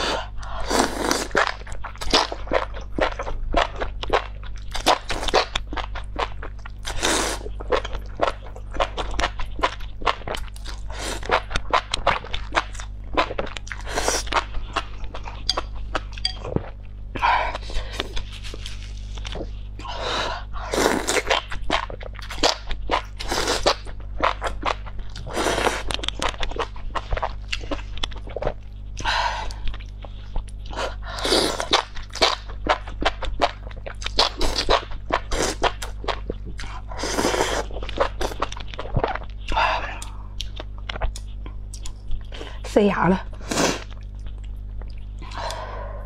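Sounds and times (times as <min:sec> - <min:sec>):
steady low hum: 0:00.0 - 0:46.0
crunching and chewing: 0:00.6 - 0:20.0, 0:20.8 - 0:42.5, 0:43.3 - 0:45.6.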